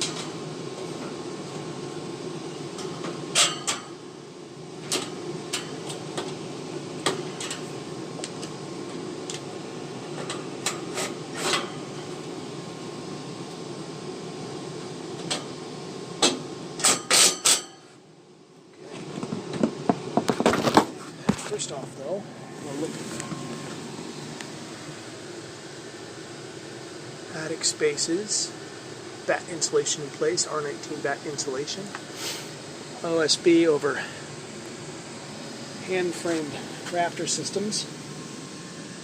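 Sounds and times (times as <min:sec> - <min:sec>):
gas furnace humming: 0:00.0 - 0:39.0.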